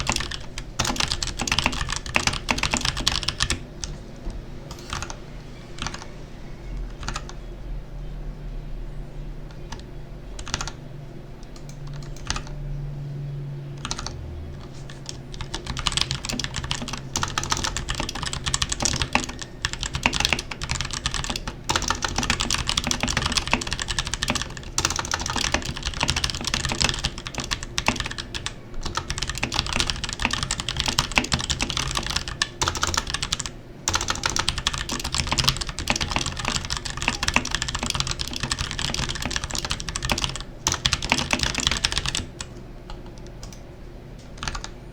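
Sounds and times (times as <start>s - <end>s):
mechanical keyboard typing: 0.0s - 5.2s, 5.8s - 6.1s, 6.8s - 7.4s, 9.5s - 10.8s, 11.4s - 12.6s, 13.8s - 43.6s, 44.3s - 44.8s.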